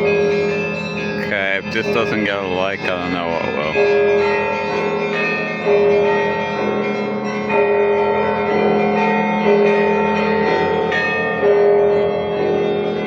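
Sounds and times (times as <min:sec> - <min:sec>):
church bells pealing: 0:00.0 - 0:13.0.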